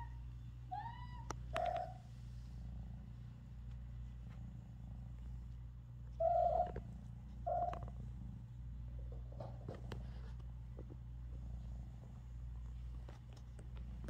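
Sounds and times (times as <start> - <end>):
low purring: 1.5 - 14.0.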